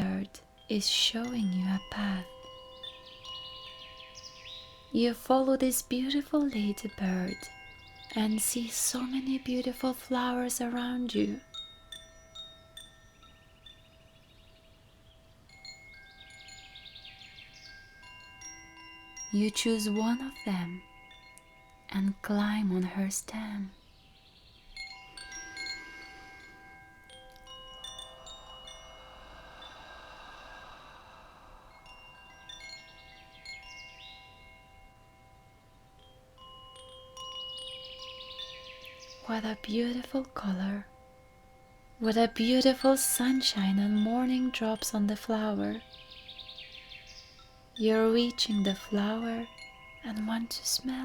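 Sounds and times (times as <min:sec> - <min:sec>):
wind chimes ringing: 0:00.0 - 0:51.0.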